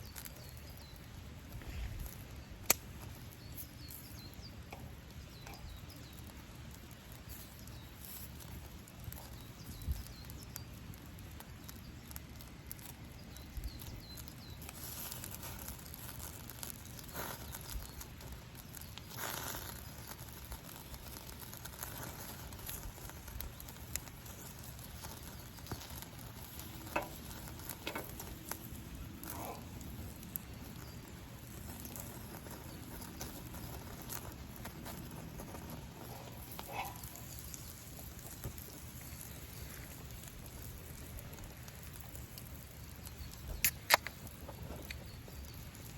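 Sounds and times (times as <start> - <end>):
campfire crackling: 0.0 - 45.9
fire popping: 0.0 - 45.9
sharp snap of fire: 0.0 - 45.9.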